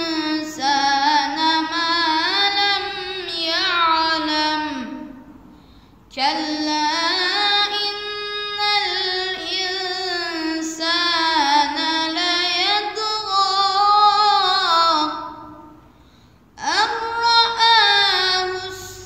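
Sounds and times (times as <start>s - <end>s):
boy chanting melodically: 0.0s - 5.4s, 6.1s - 15.8s, 16.5s - 19.0s.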